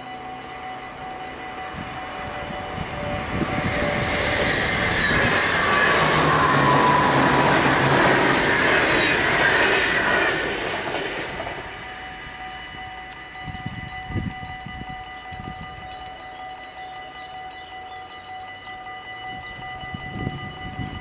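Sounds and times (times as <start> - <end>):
electric train passing: 0.0 - 21.0
level crossing bells ringing: 0.0 - 21.0.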